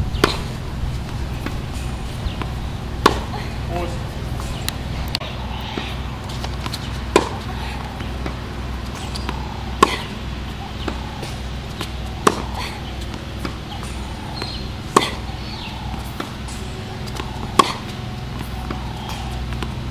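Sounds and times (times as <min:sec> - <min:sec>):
racket hitting tennis ball: 0:00.1 - 0:19.9.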